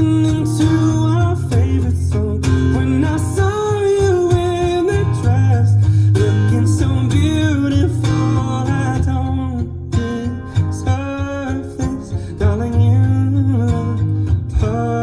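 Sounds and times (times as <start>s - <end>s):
song with acoustic guitar: 0.0s - 15.0s.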